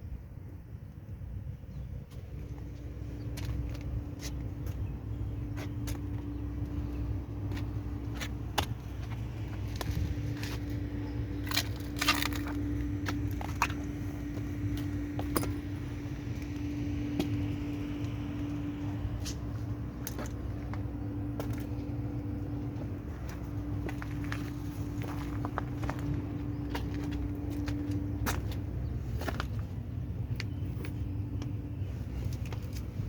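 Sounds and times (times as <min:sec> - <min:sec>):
machine hum with low rumble: 0:00.0 - 0:33.0.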